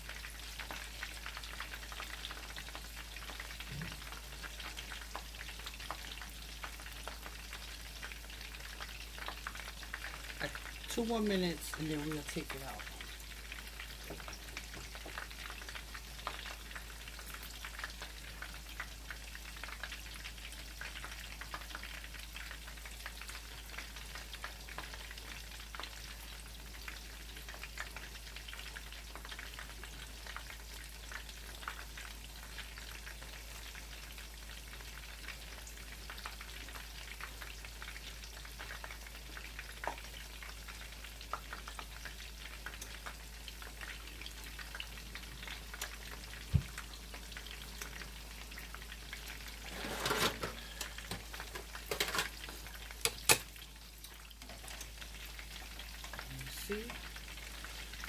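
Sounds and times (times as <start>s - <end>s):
meat sizzling in hot oil: 0.0s - 50.0s, 50.6s - 58.0s.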